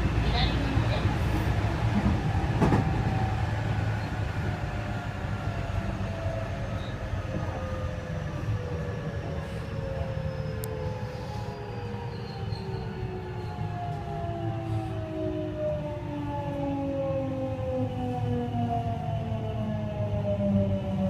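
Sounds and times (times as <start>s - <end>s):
train rail and running noise: 0.0s - 21.0s.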